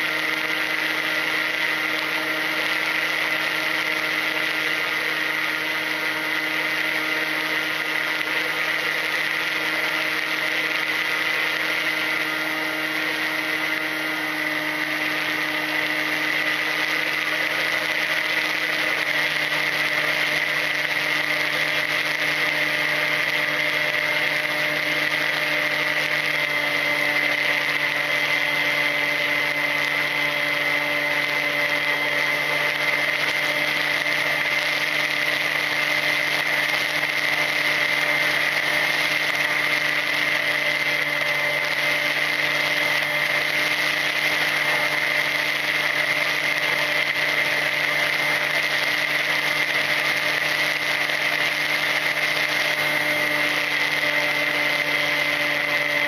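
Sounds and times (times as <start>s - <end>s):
electric motor high whine: 0.0s - 56.0s.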